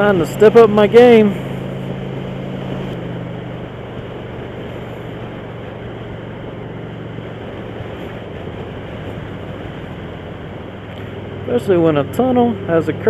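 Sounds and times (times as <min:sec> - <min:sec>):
wind rushing: 0:00.0 - 0:11.5
motorcycle engine running: 0:00.0 - 0:13.0.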